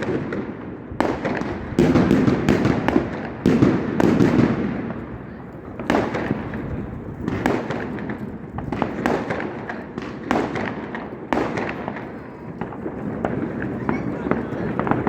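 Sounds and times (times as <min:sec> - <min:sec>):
fireworks bangs: 0:00.0 - 0:15.0
fireworks rumbling crackle: 0:00.0 - 0:15.0.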